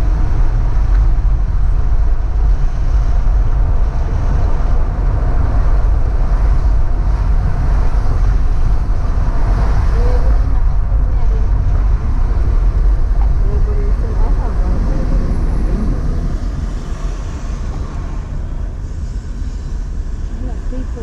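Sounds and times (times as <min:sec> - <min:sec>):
car road rumble: 0:00.0 - 0:21.0
wind noise: 0:00.0 - 0:21.0.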